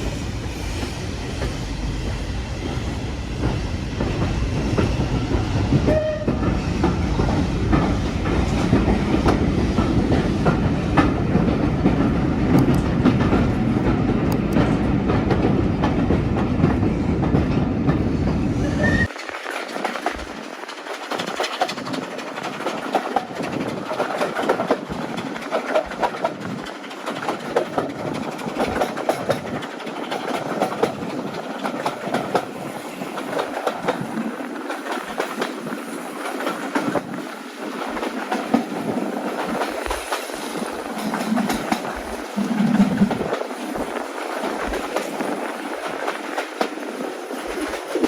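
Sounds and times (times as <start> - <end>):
train wheels clattering over rail joints: 0.0 - 48.0.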